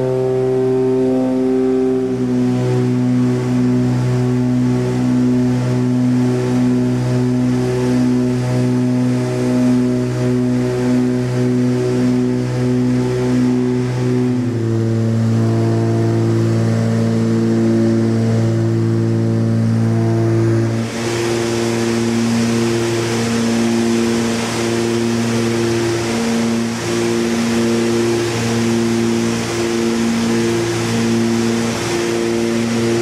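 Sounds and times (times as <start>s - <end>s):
propeller aircraft engines droning: 0.0s - 33.0s.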